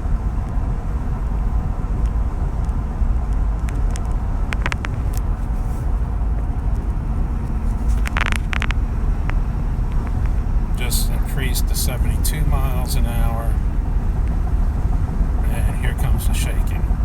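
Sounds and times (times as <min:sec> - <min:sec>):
road rumble inside truck cab: 0:00.0 - 0:17.0.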